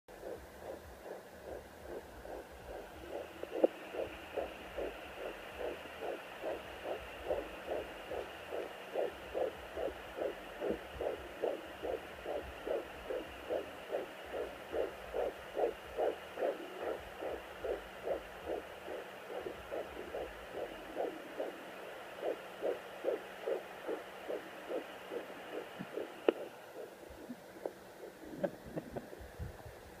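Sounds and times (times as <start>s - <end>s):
fetal heartbeat pulse: 0.1s - 30.0s
steady hiss and faint hum: 0.1s - 30.0s.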